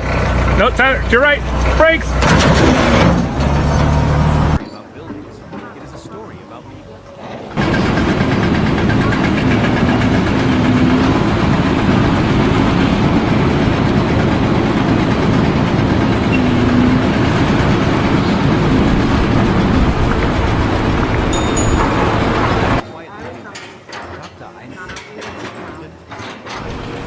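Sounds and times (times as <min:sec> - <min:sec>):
heavy engine running: 0:00.0 - 0:22.8.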